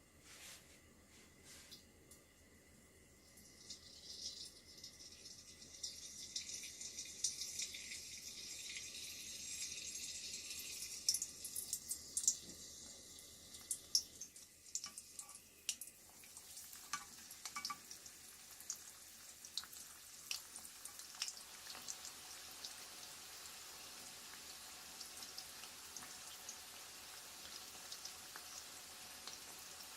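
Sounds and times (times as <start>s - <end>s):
hot oil sizzling in a pan: 3.4s - 29.9s.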